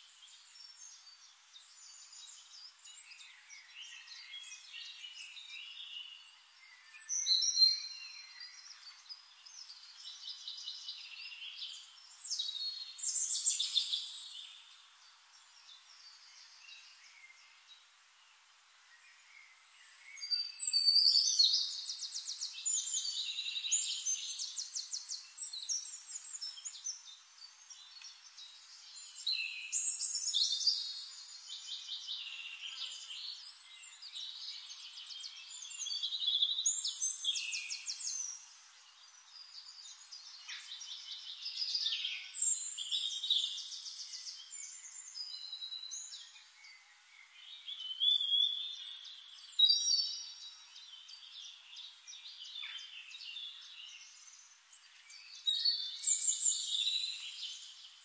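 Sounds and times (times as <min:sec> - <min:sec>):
songbird trilling and chirping: 0:00.1 - 0:17.6, 0:19.2 - 0:58.0.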